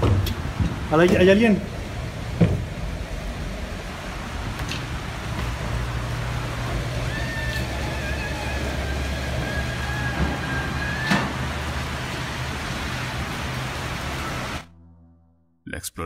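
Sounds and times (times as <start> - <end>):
cars passing on a wet street: 0.0 - 14.7
heavy rain: 0.0 - 14.7.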